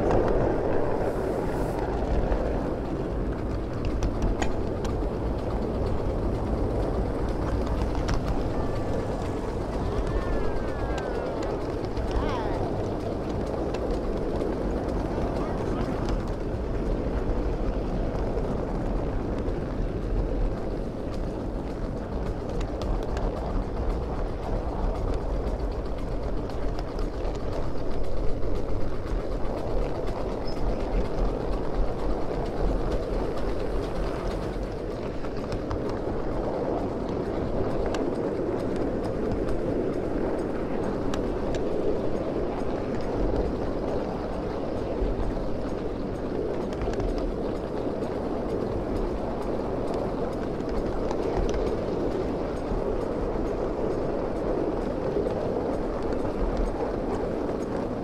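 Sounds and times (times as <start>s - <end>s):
steel wheels rumbling on rails: 0.0s - 58.0s
faint clicks: 3.3s - 58.0s.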